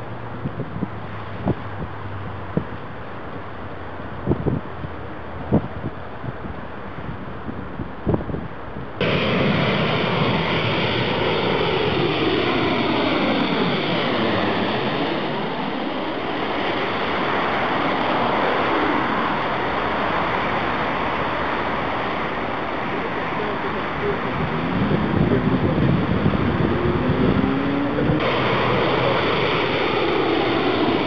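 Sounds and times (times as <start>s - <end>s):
jet airliner passing overhead: 0.0s - 4.2s, 9.0s - 31.0s.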